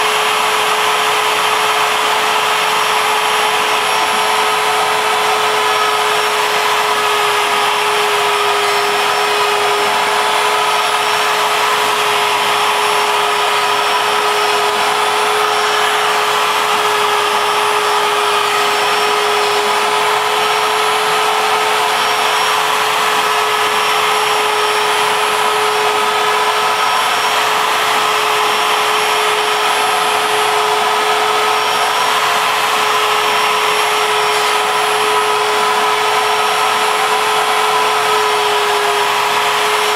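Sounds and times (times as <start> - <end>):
dust vacuum running: 0.0 - 39.9
router spindle cutting: 0.0 - 39.9.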